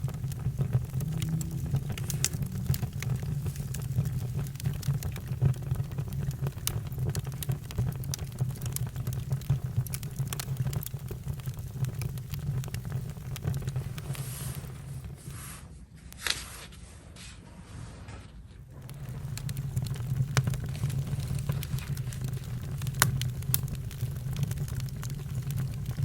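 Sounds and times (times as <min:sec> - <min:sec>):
campfire crackling: 0:00.0 - 0:15.4, 0:18.7 - 0:26.0.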